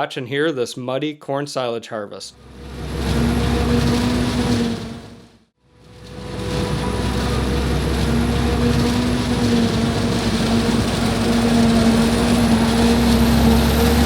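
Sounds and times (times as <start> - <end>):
forage harvester engine drone: 2.4 - 14.0
high machine whine: 2.4 - 14.0.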